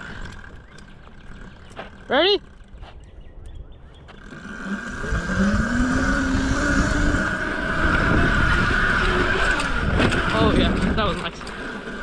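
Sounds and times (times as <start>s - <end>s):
small bike engine revving: 0.0s - 3.0s, 4.0s - 12.0s.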